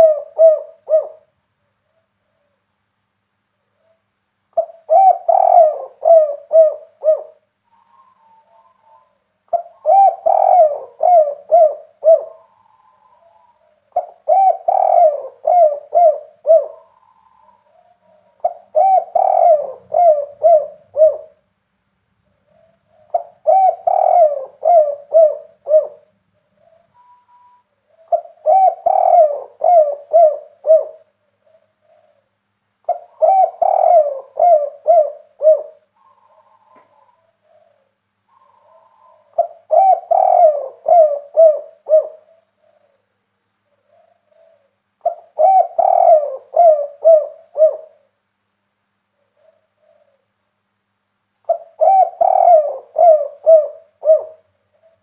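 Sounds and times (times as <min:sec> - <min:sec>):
dove cooing: 0:00.0 - 0:02.7, 0:03.6 - 0:21.4, 0:22.2 - 0:48.2, 0:49.2 - 0:50.4, 0:51.4 - 0:55.0.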